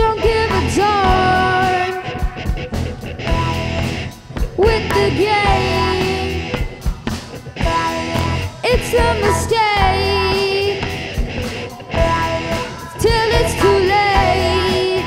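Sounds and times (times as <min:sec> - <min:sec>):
girl singing lead: 0:00.0 - 0:03.5, 0:04.4 - 0:06.9, 0:07.6 - 0:15.0
live rock band playing: 0:00.0 - 0:15.0.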